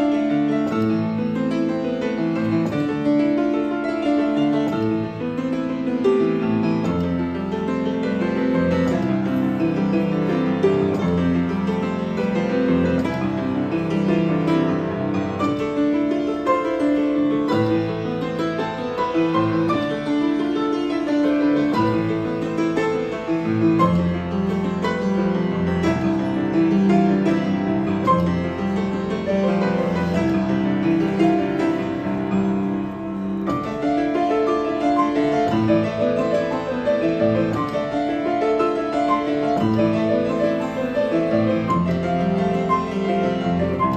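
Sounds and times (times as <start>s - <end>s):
piano piece: 0.0s - 43.9s.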